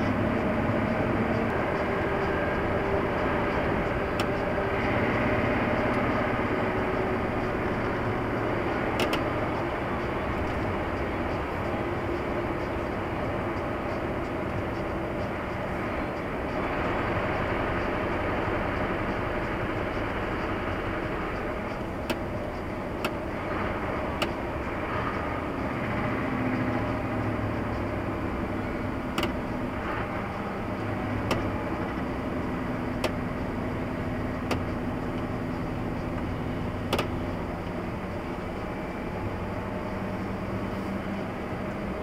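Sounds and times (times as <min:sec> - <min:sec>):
car engine and tyres rumble: 0:00.0 - 0:42.0.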